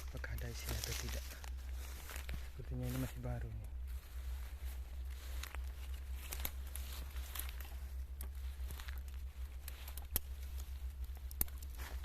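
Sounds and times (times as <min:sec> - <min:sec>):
dry grass crackling and rustling: 0:00.0 - 0:12.0
low rumble: 0:00.0 - 0:12.0.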